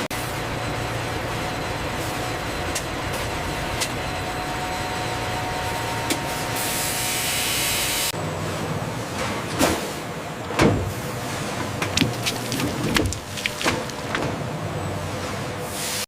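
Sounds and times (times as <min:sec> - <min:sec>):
machinery humming: 0:00.0 - 0:15.6.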